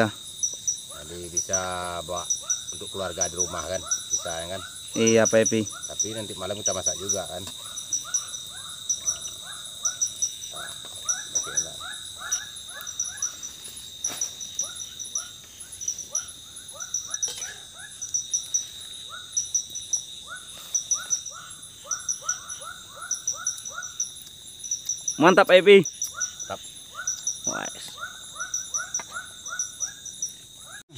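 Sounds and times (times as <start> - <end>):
cricket-like chirps: 0.0 - 30.9
high insect drone: 0.0 - 30.9.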